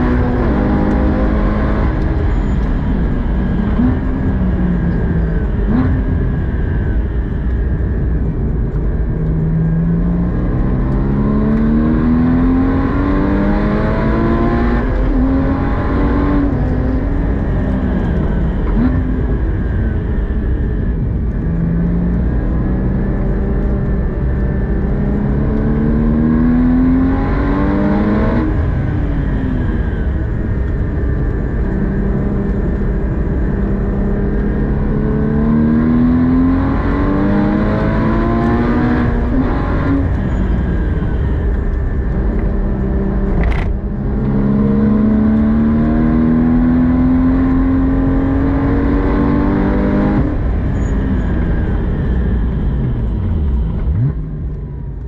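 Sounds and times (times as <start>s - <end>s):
car engine accelerating: 0.0s - 55.0s
road and tyre noise: 0.0s - 55.0s.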